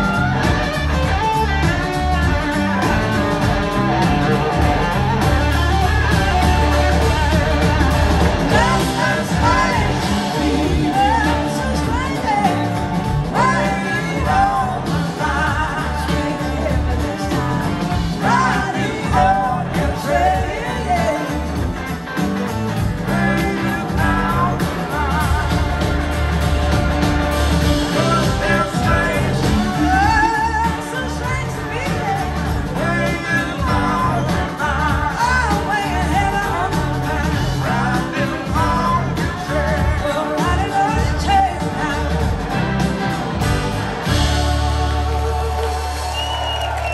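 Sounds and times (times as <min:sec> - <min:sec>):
blues-rock band playing: 0:00.0 - 0:46.9
gliding lead guitar line: 0:00.0 - 0:46.9.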